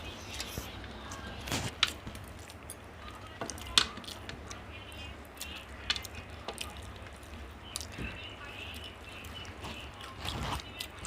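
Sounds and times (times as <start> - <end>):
low steady hum: 0.0 - 11.0
people chewing food: 0.0 - 11.0.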